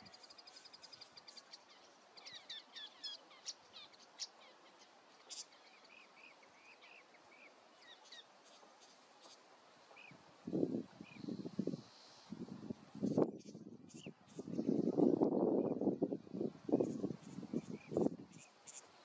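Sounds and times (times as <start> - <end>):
songbirds chirping: 0.0 - 12.4, 13.0 - 19.0.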